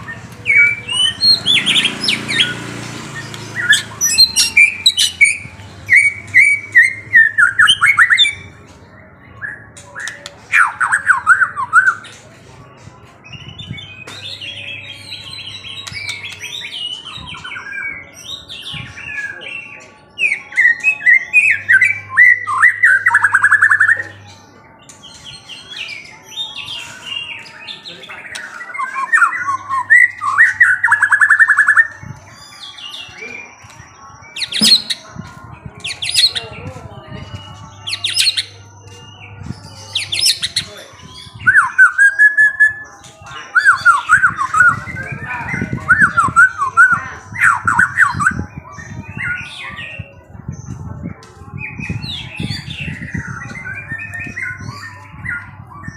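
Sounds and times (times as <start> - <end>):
songbird chirps and trills: 0.0 - 55.9.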